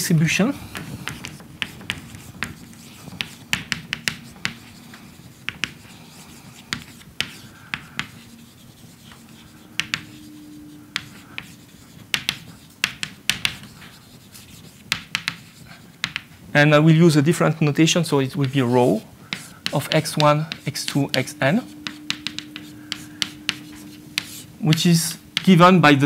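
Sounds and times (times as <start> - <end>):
chalk tapping and scratching: 0.5 - 16.3, 18.3 - 25.7.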